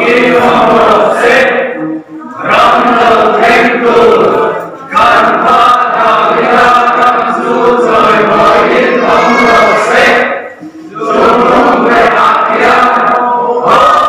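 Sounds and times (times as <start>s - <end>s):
congregation singing: 0.0s - 14.0s.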